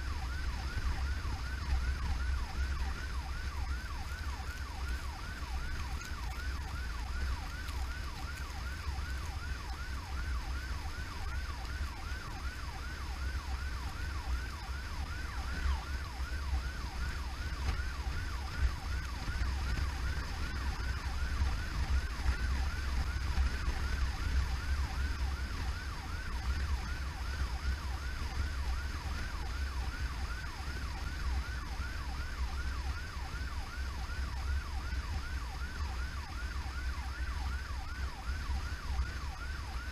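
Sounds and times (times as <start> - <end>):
road noise: 0.0 - 39.9
siren on fast yelp: 0.0 - 39.9
vehicle engine rumble: 0.0 - 39.9.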